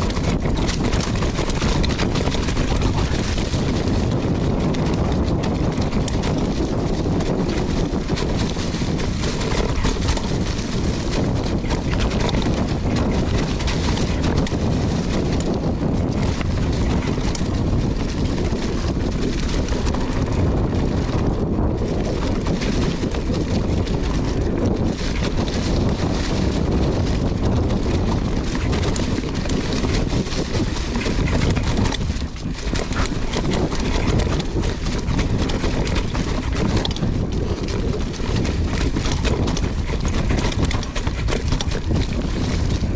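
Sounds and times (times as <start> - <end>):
mountain bike rattling: 0.0 - 42.9
wind on microphone: 0.0 - 42.9.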